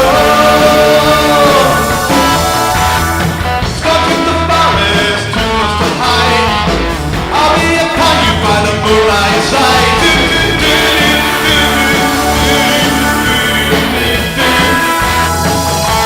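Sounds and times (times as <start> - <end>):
rock music with singing: 0.0 - 16.0
steady bass line: 0.0 - 16.0.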